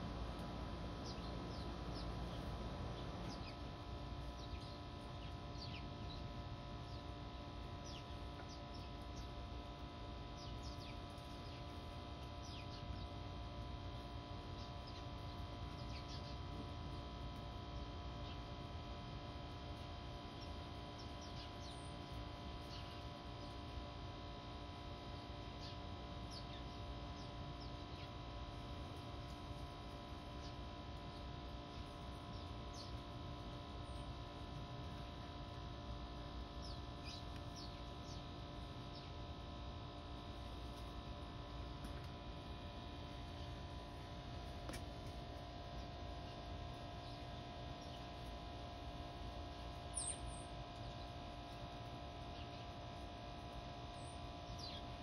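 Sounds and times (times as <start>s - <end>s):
steady background hum: 0.0s - 55.0s
small birds chirping: 0.1s - 55.0s.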